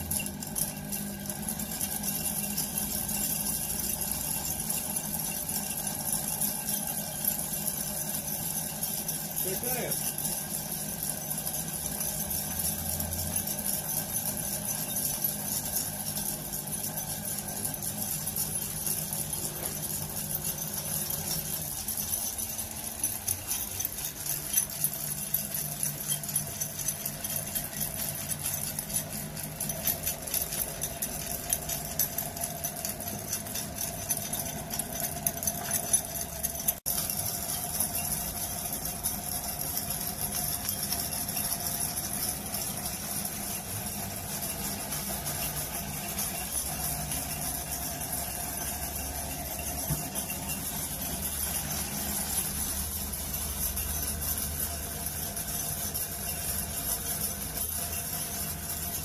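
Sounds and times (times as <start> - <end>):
motor hum: 0.0 - 59.0
stones rattling in a drum: 0.0 - 59.0.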